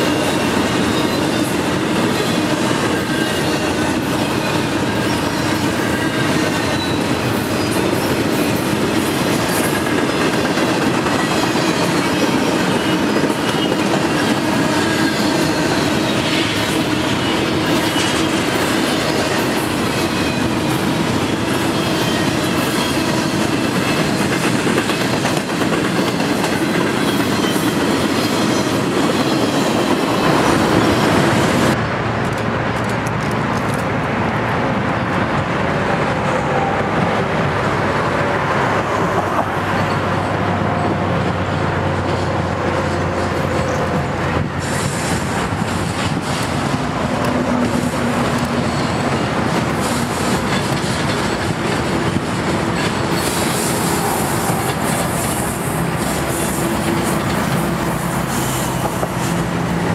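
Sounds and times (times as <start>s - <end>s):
steel train wheels rumbling on rails: 0.0s - 59.9s.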